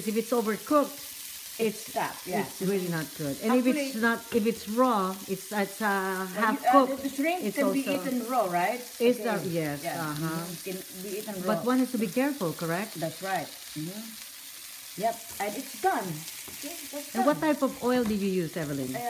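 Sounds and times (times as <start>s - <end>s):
woman talking: 0.0s - 1.0s, 1.6s - 14.1s, 15.0s - 19.0s
shrimp sizzling in a frying pan: 0.0s - 19.0s.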